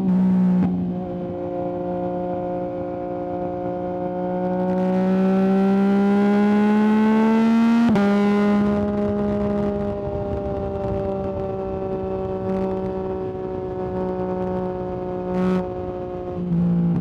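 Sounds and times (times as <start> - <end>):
motorcycle engine revving under throttle: 0.0 - 17.0.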